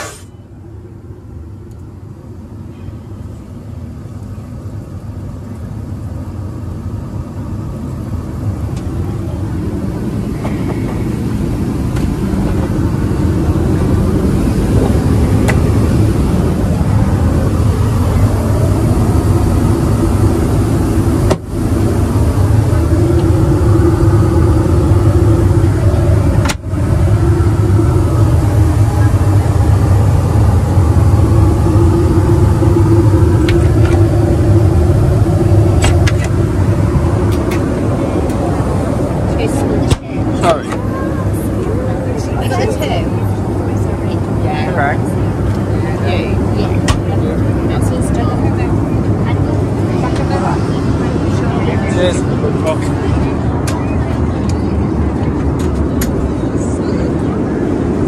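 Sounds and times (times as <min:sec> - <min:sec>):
aircraft cabin rumble: 0:00.0 - 0:58.0.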